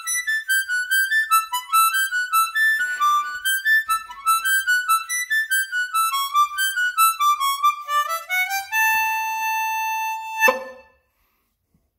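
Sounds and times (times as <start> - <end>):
harmonica playing a fast reel: 0.0 - 10.7.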